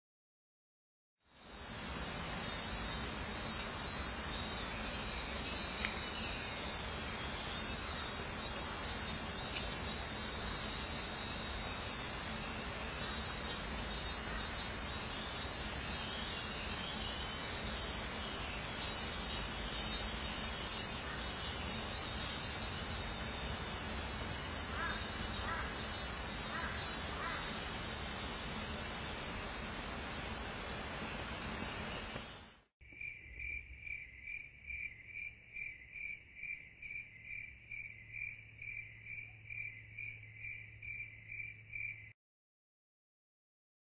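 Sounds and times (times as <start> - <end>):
insect chorus drone: 1.3 - 42.2.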